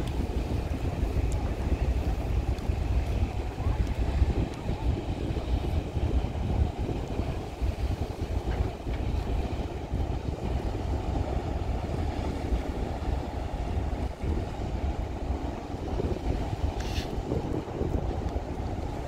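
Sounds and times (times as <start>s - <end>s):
ship engines rumbling: 0.0s - 19.0s
wind buffeting microphone: 0.0s - 19.0s.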